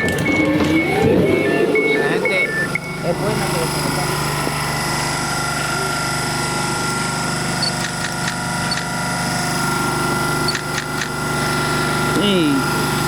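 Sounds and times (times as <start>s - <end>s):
mechanical drone with rattling pulse: 0.0s - 13.0s.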